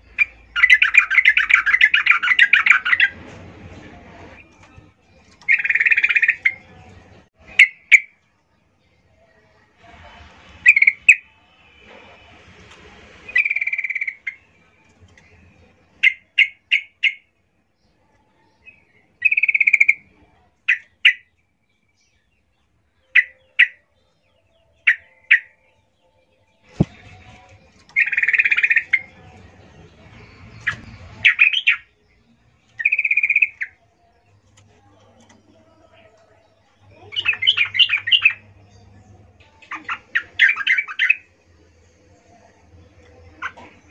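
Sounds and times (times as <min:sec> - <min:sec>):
bird chirping: 0:00.0 - 0:03.4, 0:04.2 - 0:08.2, 0:13.1 - 0:43.9
harsh bird calls: 0:00.0 - 0:08.2, 0:10.1 - 0:17.4, 0:18.4 - 0:25.8, 0:26.6 - 0:41.5.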